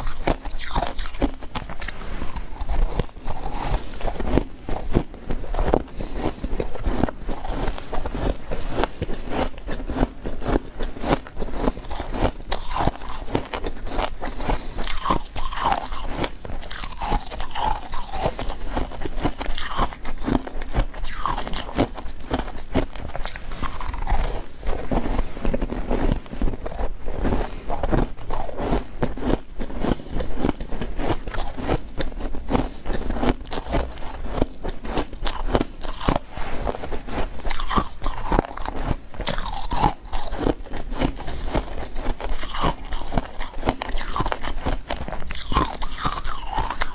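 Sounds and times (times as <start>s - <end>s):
frost being chewed crunching: 0.0s - 46.9s.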